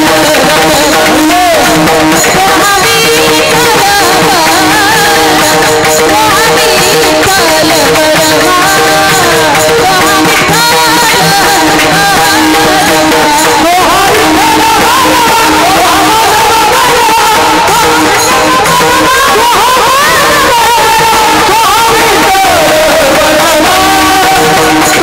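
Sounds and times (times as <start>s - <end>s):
devotional singing: 0.0s - 25.0s
rhythmic percussion: 0.0s - 25.0s.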